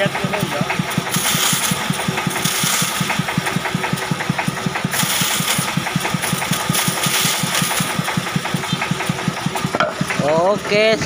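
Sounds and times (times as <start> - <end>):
saw blade cutting wood: 0.0 - 10.4
band saw rhythmic thumping: 0.0 - 11.0.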